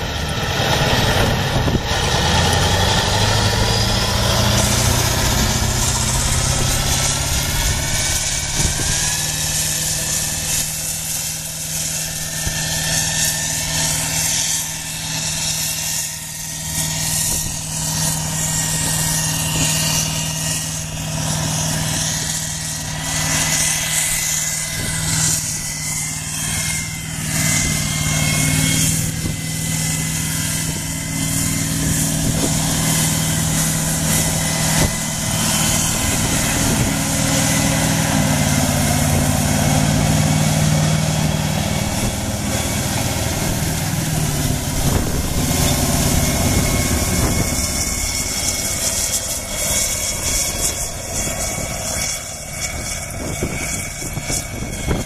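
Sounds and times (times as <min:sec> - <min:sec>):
diesel engine under load: 0:00.0 - 0:55.0
thin high whine: 0:00.0 - 0:55.0.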